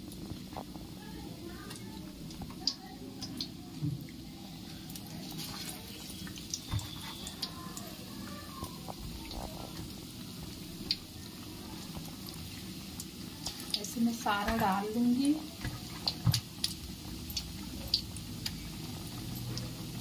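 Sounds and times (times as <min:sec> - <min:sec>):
patties sizzling in hot oil: 0:00.0 - 0:20.0.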